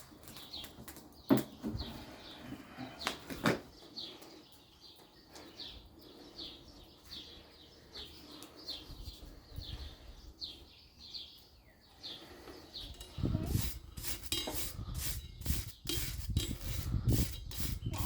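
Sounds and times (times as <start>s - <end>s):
small bird chirping: 0.1s - 18.0s.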